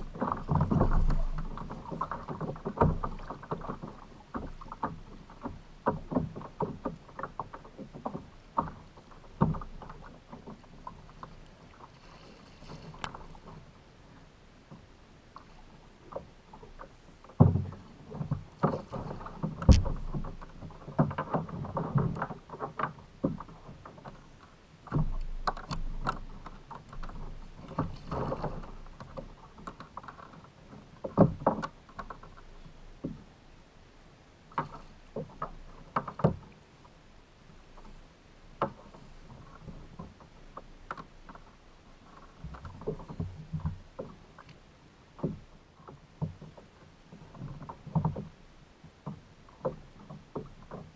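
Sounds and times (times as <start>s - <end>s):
knocks and clunks on kayak: 0.0s - 33.4s, 34.4s - 50.9s.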